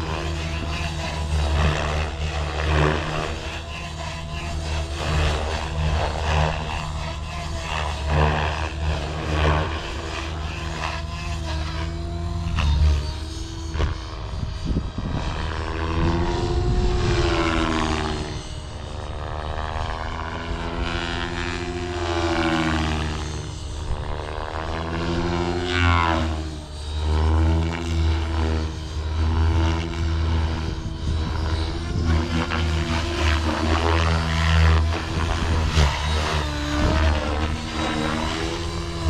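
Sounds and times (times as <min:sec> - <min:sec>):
model helicopter rotors whining: 0:00.0 - 0:39.0.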